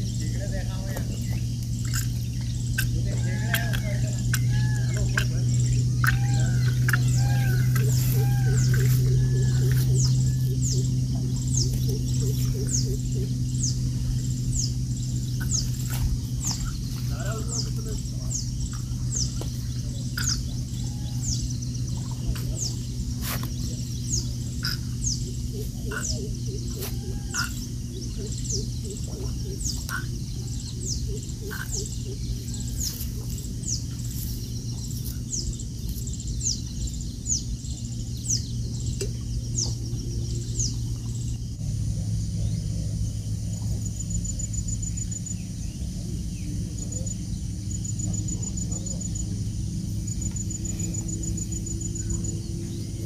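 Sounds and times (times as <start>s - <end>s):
bird chirping: 0.0s - 53.0s
low hum: 0.0s - 53.0s.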